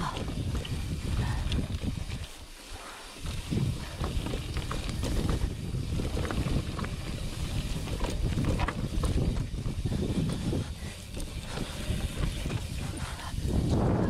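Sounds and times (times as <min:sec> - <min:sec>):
wind on microphone: 0:00.0 - 0:02.5, 0:03.2 - 0:14.0
bike clicks and rattles: 0:00.0 - 0:14.0.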